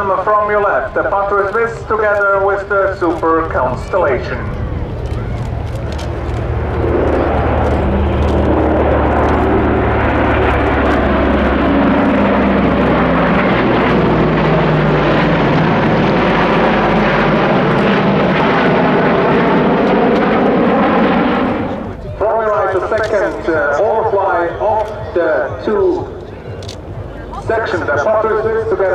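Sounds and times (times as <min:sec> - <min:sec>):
aircraft formation flyby drone: 0:00.0 - 0:28.9.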